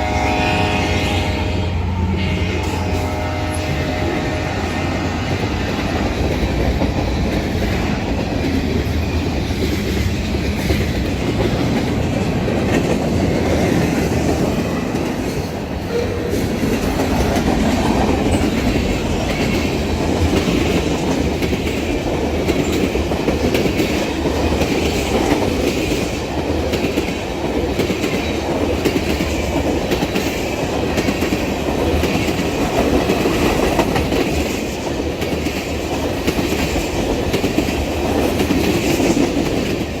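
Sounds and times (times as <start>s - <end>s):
train wheels clattering over rail joints: 5.1s - 40.0s.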